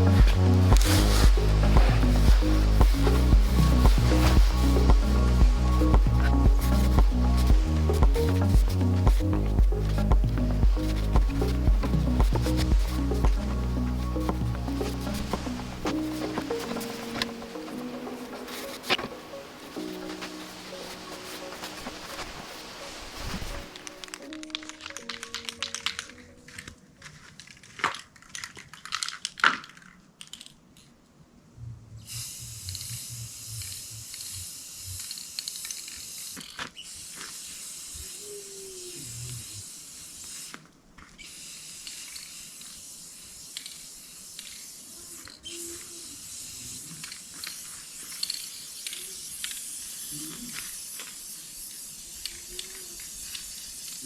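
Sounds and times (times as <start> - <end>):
spray paint hissing: 0.0 - 24.3, 32.1 - 54.0.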